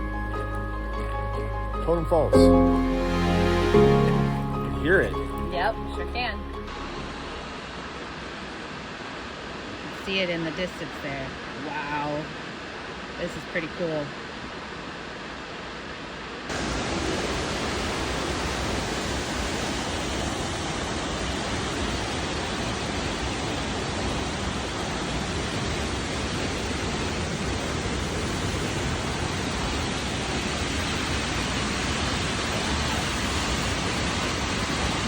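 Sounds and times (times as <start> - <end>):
waterfall rushing: 0.0 - 14.7, 16.5 - 35.0.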